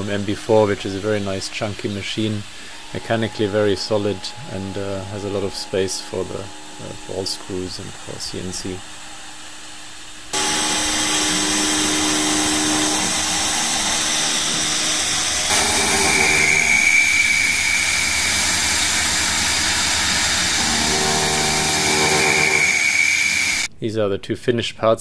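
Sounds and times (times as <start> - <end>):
low feed motor tones: 0.0 - 23.7
milling machine cutting metal: 0.0 - 23.7
steady high whine: 0.0 - 23.7.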